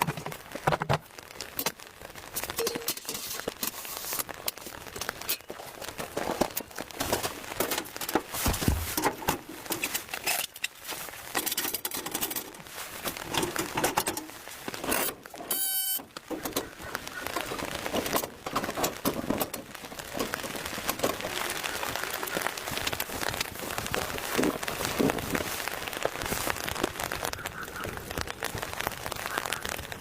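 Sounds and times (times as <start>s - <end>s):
material crackling and crinkling: 0.0s - 30.0s.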